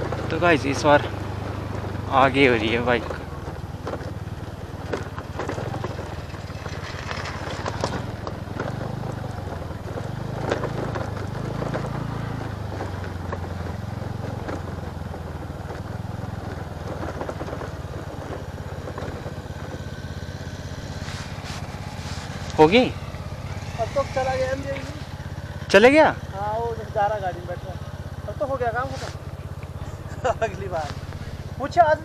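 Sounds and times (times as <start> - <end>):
gravel crackling under tyres: 0.0 - 32.0
scooter engine running: 0.0 - 32.0.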